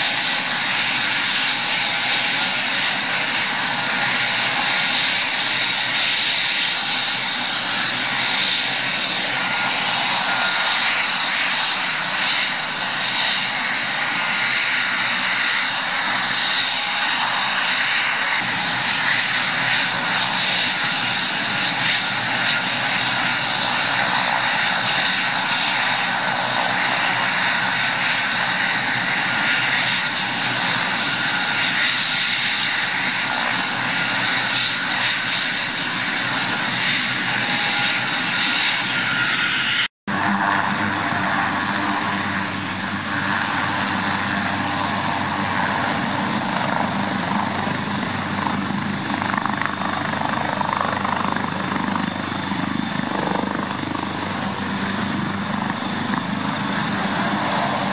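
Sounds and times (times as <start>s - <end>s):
helicopter turbine engines running: 0.0s - 57.9s.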